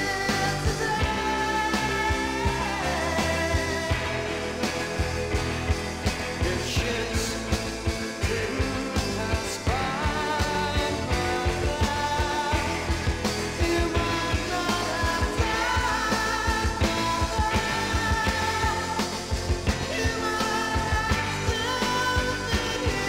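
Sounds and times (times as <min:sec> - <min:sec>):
psychedelic rock band: 0:00.0 - 0:23.0
steady drum beat: 0:00.0 - 0:23.0.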